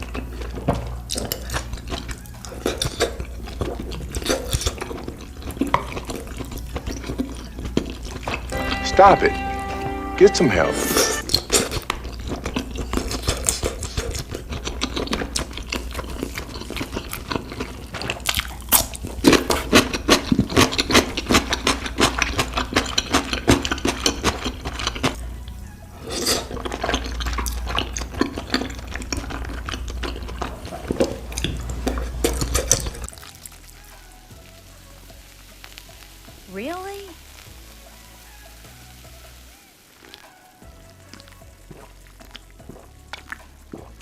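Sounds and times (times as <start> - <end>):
wet chewing and slurping: 0.0 - 8.6, 11.2 - 34.6, 39.9 - 44.0
background music: 0.0 - 44.0.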